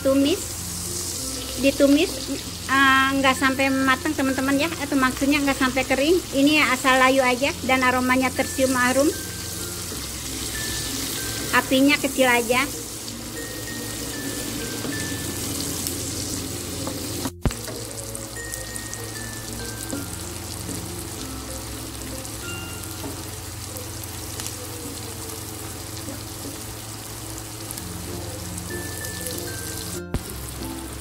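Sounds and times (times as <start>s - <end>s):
aromatics sizzling in oil: 0.0s - 31.0s
soft background music: 0.0s - 31.0s.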